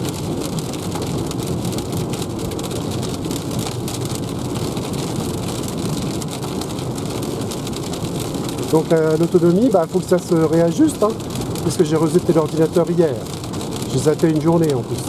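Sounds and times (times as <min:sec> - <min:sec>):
heavy rain drumming on car roof: 0:00.0 - 0:15.0.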